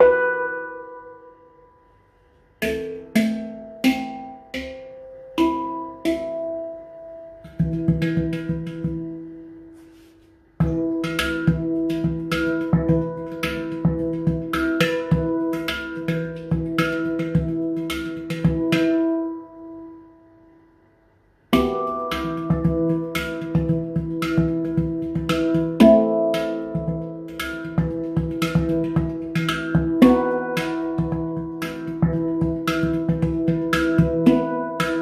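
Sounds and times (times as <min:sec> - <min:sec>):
handpan played with fingers: 0:00.0 - 0:20.1, 0:21.5 - 0:35.0.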